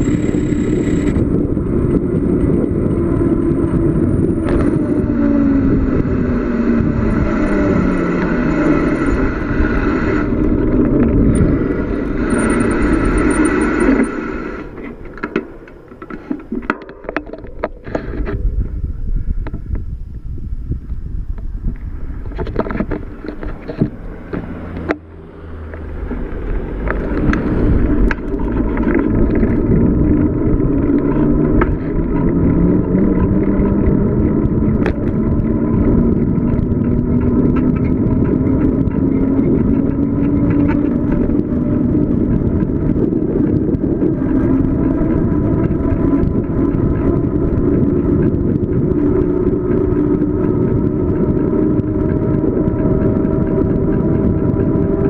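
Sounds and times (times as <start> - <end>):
bicycle tyre noise: 0.0 - 55.0
whine rising in pitch: 0.0 - 55.0
wind rush: 0.0 - 55.0.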